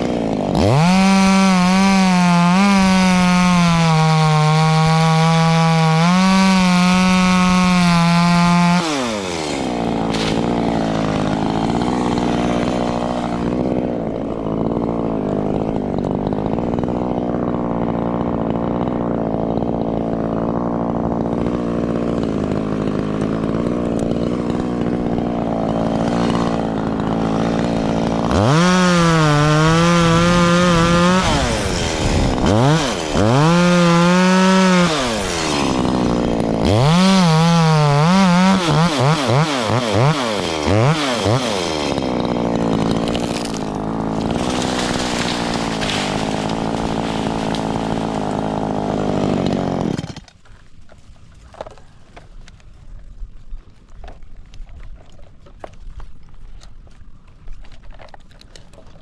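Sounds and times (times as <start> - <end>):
chainsaw engine revving and idling: 0.0 - 50.4.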